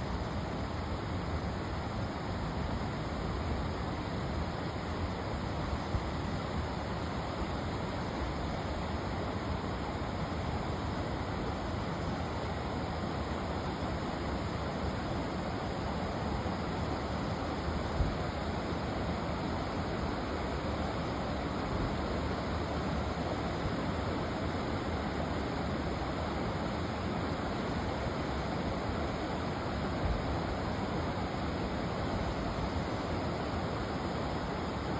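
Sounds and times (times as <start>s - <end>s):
creek water rushing: 0.0s - 34.9s.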